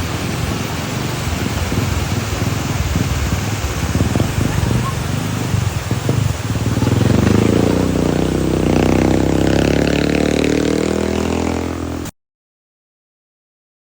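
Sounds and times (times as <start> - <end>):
vehicle engine running: 0.0 - 12.1.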